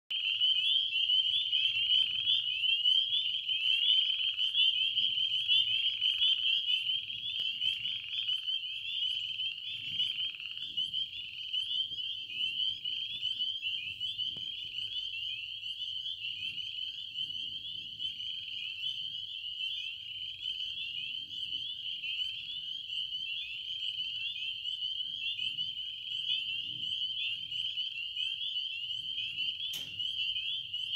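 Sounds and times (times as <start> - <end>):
chorus of small frogs calling: 0.1 - 30.9
lower frog call: 0.1 - 30.9.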